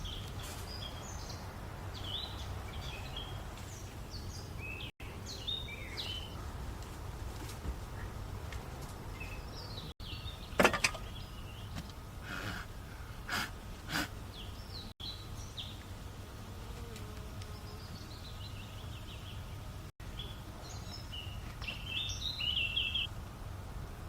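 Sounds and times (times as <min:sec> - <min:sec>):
birds chirping: 0:00.0 - 0:07.1, 0:07.8 - 0:13.4, 0:14.1 - 0:16.0, 0:17.3 - 0:23.1.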